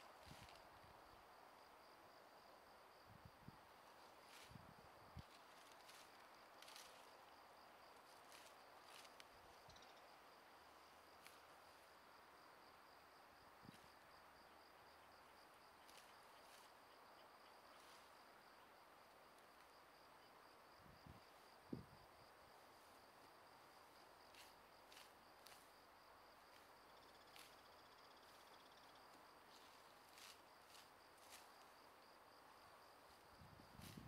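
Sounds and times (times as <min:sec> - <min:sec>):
high-pitched insect trill: 0:02.4 - 0:34.0.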